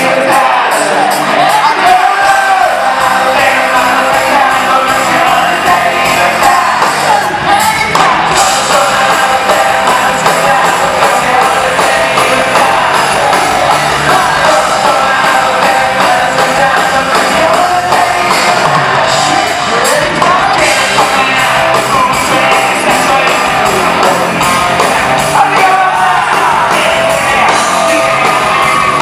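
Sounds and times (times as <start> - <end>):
drums: 0.0 - 29.0
electric guitar: 0.0 - 29.0
shouted and sung rock vocals: 0.0 - 29.0.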